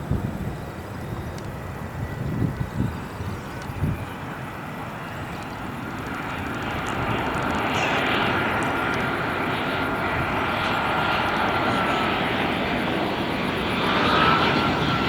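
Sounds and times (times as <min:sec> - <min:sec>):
airliner engines roaring: 0:00.0 - 0:15.0
high engine whine: 0:00.0 - 0:15.0.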